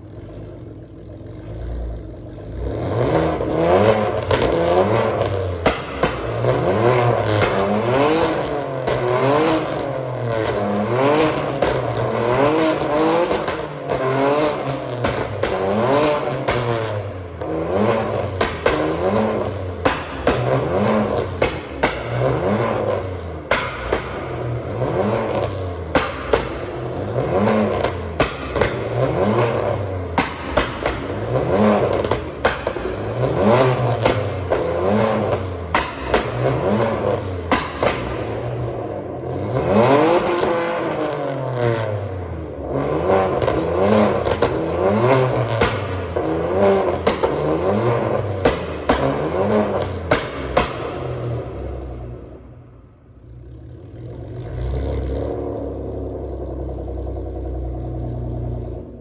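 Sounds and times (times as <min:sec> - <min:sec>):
exhaust pops and crackles: 0:00.0 - 0:52.4
car exhaust revving: 0:00.0 - 0:59.0.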